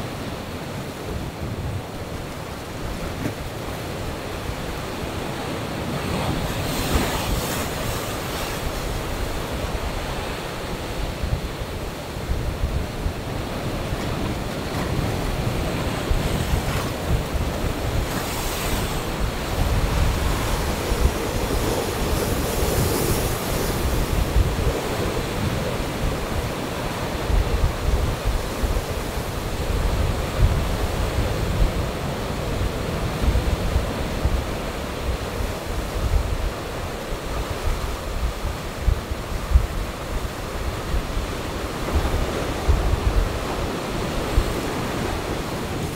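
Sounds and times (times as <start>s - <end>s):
ocean waves crashing on rocks: 0.0s - 45.9s.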